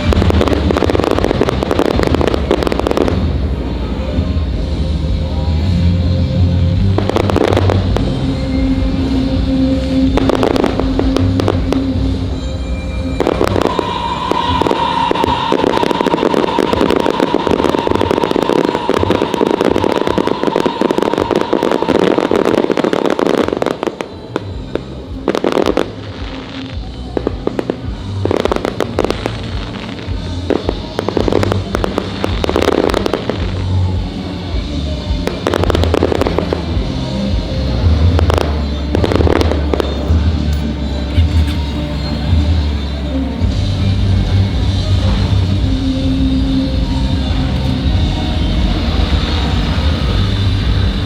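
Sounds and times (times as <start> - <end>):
fireworks crackling and bursting: 0.0 - 51.0
music playing: 0.0 - 51.0.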